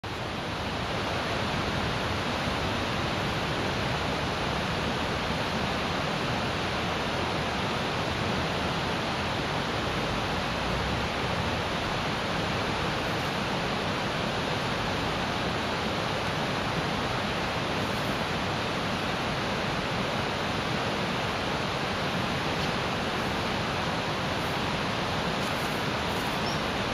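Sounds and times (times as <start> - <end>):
steady rushing noise: 0.0 - 26.9.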